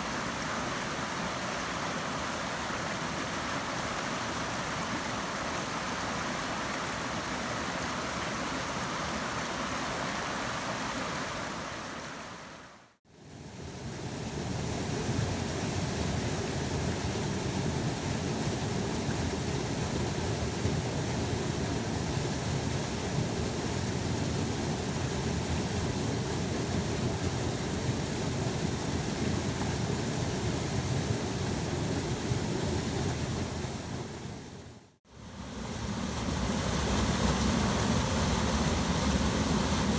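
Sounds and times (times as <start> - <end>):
waterfall rushing into creek: 0.0 - 12.8, 14.3 - 39.9.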